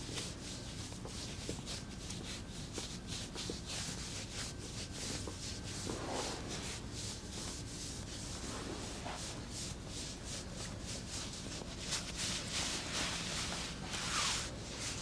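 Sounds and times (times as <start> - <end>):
hands rubbing skin and clothing: 0.0 - 15.0.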